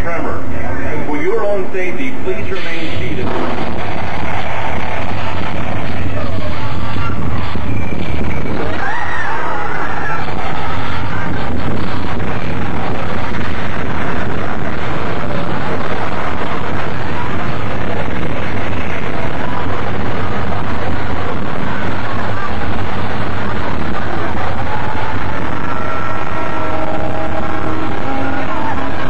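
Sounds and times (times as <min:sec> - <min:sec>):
loud steady rumbling: 0:00.0 - 0:29.0.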